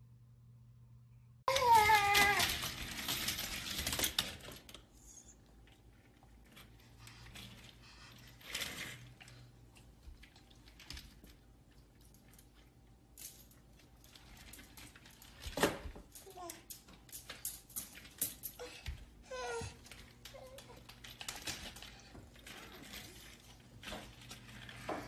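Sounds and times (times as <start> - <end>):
toy stroller rattling on tile: 1.5 - 12.8, 13.4 - 25.0.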